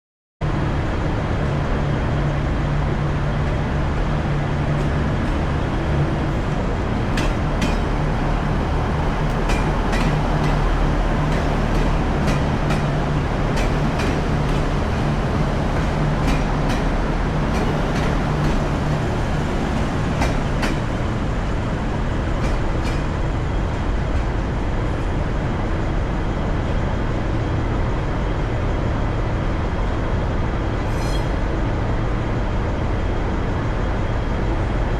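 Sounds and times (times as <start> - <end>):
train engine rumble: 0.4 - 34.9
train rolling noise: 0.4 - 34.9.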